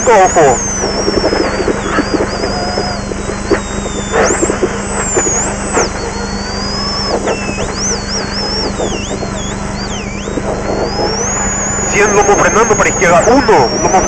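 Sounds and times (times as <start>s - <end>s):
high whine sliding in pitch: 0.0s - 14.0s.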